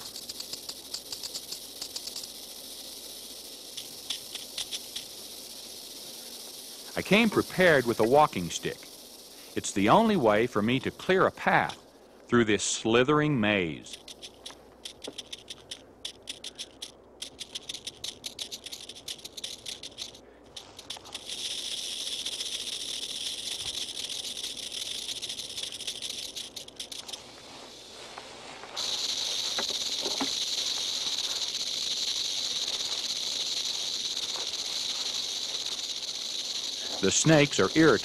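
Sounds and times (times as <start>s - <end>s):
rattlesnakes rattling: 0.0s - 38.0s.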